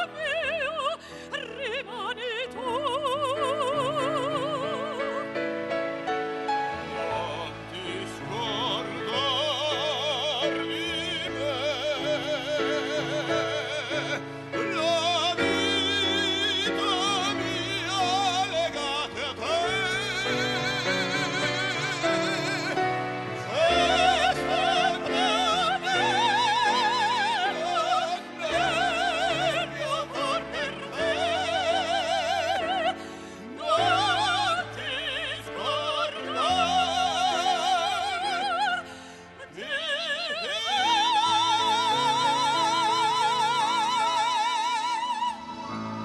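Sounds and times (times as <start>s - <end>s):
instrumental accompaniment: 0.0s - 46.0s
operatic voice singing: 0.0s - 46.0s.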